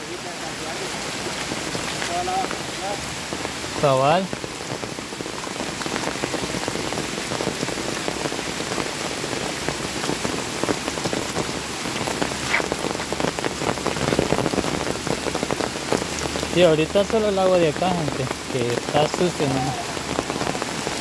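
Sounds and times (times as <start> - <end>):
rain falling on leaves: 0.0 - 21.0.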